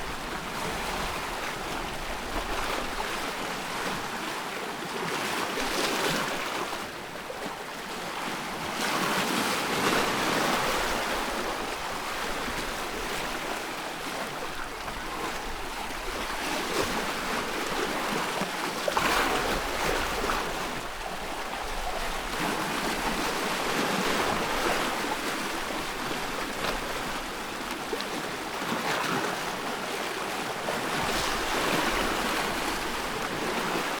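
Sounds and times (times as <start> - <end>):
ocean waves breaking on shore: 0.0 - 34.0.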